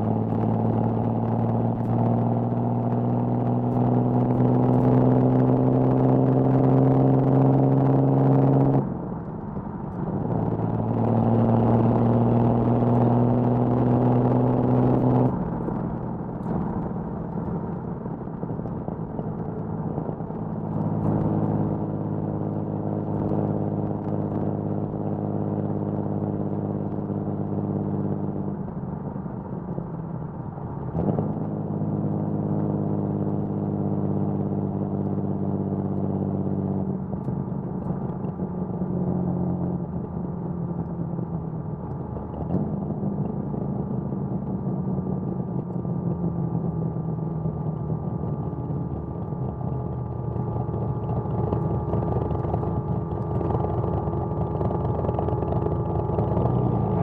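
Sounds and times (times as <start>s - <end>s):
car engine driving: 0.0s - 57.0s.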